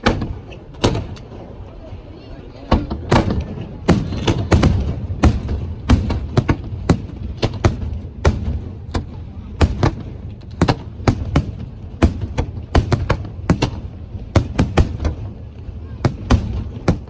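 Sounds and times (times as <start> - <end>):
firework shells bursting: 3.1 - 17.0.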